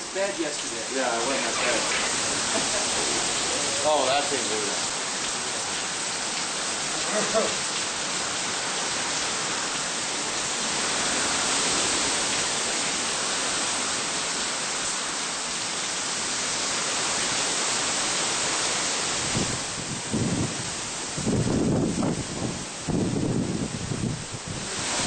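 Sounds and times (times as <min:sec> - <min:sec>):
heavy wind-driven rain: 0:00.0 - 0:25.0.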